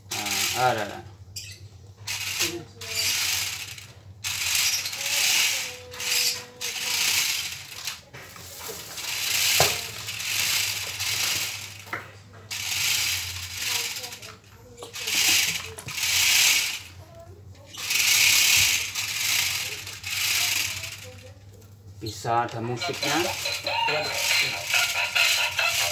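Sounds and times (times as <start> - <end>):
toy car motors whirring: 0.0 - 25.9.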